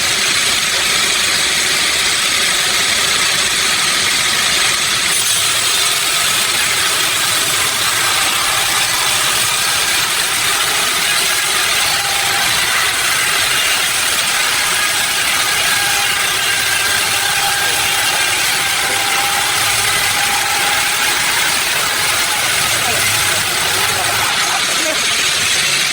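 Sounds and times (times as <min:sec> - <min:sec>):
sawmill machinery droning: 0:00.0 - 0:25.9.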